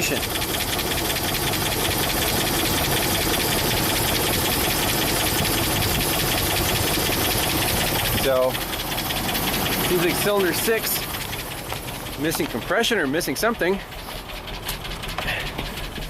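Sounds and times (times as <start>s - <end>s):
engine idling with rapid tapping: 0.0s - 16.0s.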